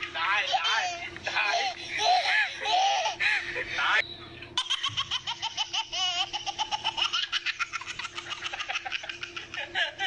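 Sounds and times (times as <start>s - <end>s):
toddler giggling: 0.5s - 3.2s, 4.6s - 10.0s.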